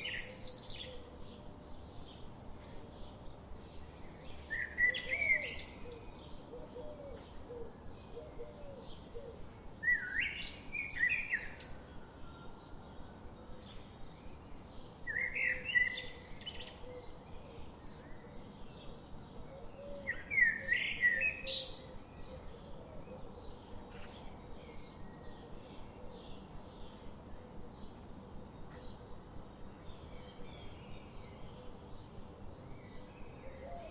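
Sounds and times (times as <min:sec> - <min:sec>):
steady low hiss: 0:00.0 - 0:33.9.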